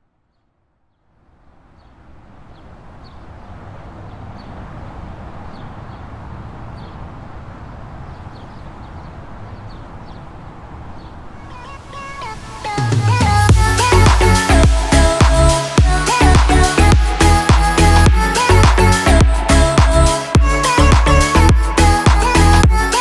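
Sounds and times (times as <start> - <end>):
motorway traffic rumble: 0.0 - 23.0.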